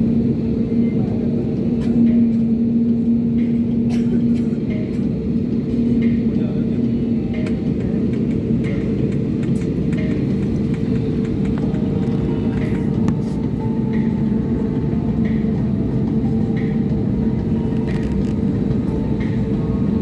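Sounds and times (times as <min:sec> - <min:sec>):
jet engines humming: 0:00.0 - 0:20.0
rumbling background: 0:00.0 - 0:20.0.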